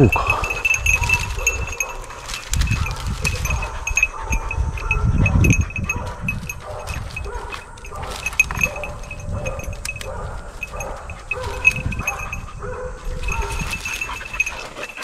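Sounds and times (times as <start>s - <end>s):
dogs sniffing and whining: 0.0s - 15.0s
rustling in brush: 0.3s - 15.0s.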